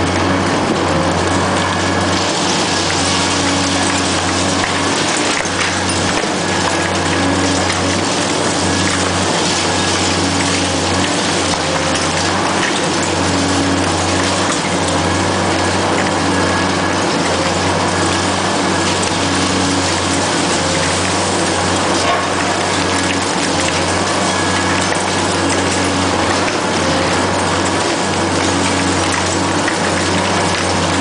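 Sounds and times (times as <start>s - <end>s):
excavator engine drone: 0.0s - 31.0s
concrete crumbling and rubble falling: 1.4s - 31.0s.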